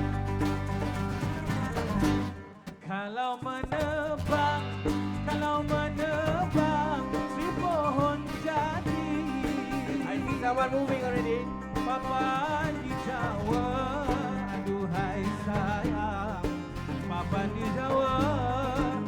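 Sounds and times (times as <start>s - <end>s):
bass line: 0.0s - 2.5s, 4.2s - 19.0s
wavering lead melody: 0.0s - 2.6s, 4.3s - 19.0s
live band playing: 0.0s - 2.7s, 4.2s - 19.0s.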